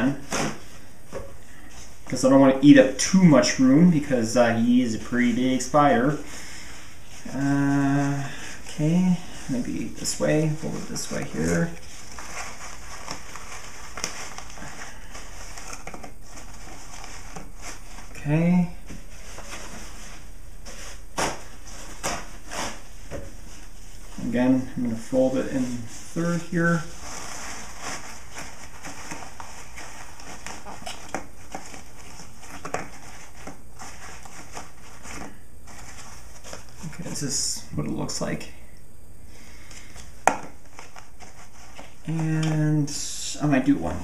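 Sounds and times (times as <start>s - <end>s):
paper rustling and crinkling: 0.0s - 18.2s, 18.8s - 37.2s, 39.7s - 42.6s.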